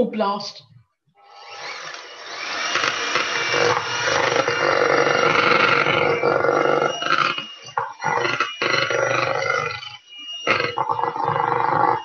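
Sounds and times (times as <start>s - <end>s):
electric hand whisk running: 1.2s - 12.0s.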